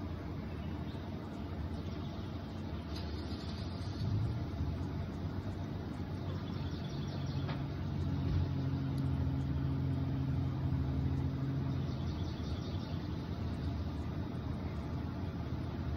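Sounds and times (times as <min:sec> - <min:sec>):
low hum: 0:00.0 - 0:15.9
low rumbling ambience: 0:00.0 - 0:15.9.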